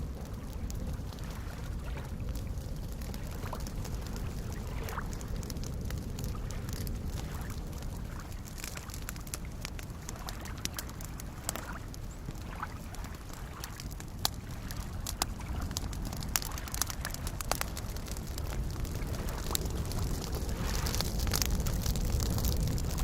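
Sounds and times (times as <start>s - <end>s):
campfire crackling: 0.0s - 23.0s
waves lapping: 0.2s - 23.0s.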